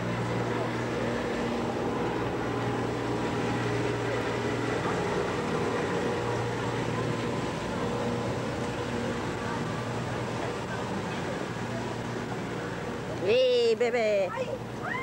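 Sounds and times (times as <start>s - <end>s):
low constant hum: 0.0s - 15.0s
street traffic noise: 0.0s - 15.0s.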